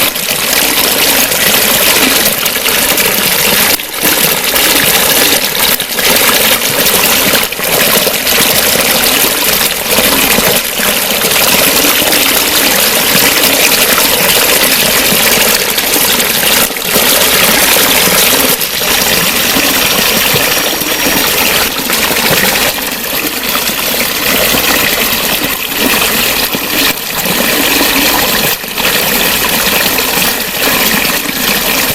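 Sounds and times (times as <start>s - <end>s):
water gurgling and trickling: 0.0s - 31.9s.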